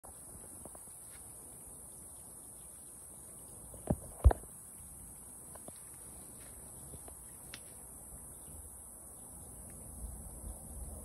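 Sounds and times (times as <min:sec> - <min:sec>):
night insects trilling: 0:00.1 - 0:11.0.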